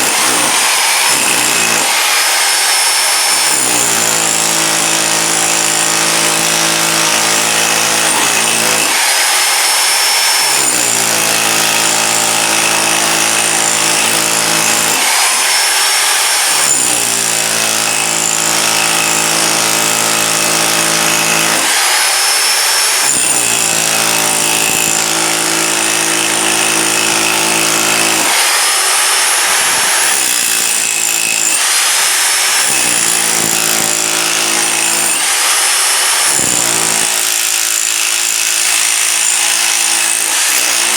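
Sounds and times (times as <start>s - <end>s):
rotary hammer breaking concrete: 0.0s - 40.9s.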